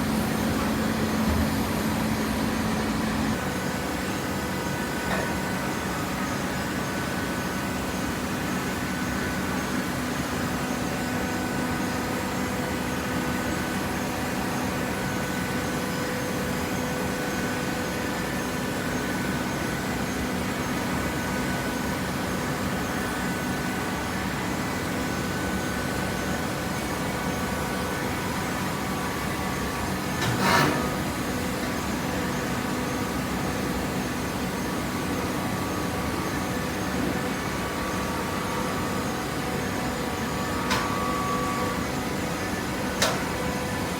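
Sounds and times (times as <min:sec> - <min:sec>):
hydraulic motor and pump humming: 0:00.0 - 0:43.9.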